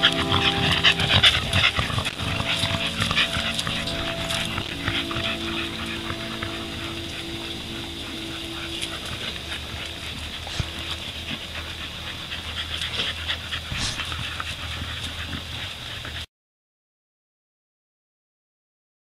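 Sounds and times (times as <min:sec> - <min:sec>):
faint steady hum: 0:00.0 - 0:16.2
dogs panting: 0:00.0 - 0:16.3.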